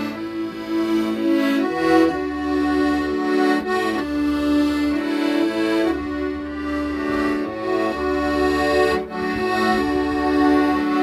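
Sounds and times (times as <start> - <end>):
accordion slow melody: 0.0 - 11.0.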